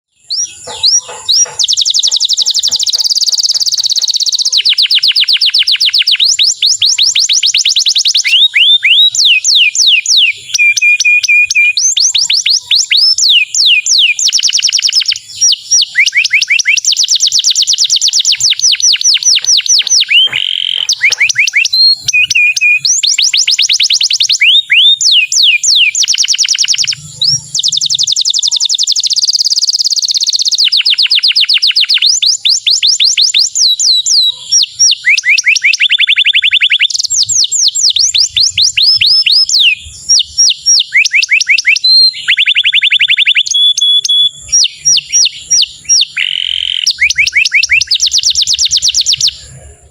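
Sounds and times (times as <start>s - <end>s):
canary singing fast trills: 0.1s - 49.9s.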